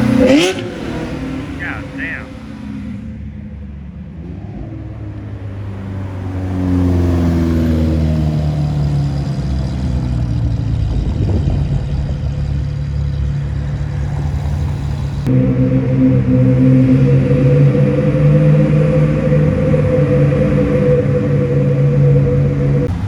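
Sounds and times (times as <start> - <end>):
car engine falling in pitch: 0.0 - 3.3, 4.4 - 23.0.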